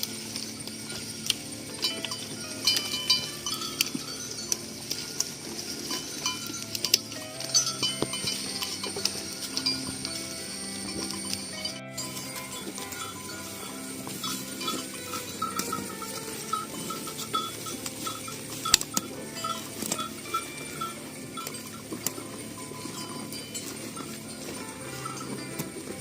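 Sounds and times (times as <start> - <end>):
cattle bells clinking: 0.0 - 26.0.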